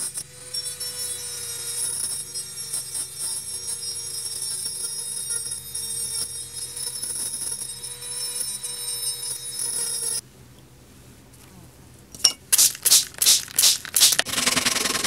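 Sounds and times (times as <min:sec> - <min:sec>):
rotary tool grinding metal: 0:00.0 - 0:10.2, 0:12.5 - 0:15.0.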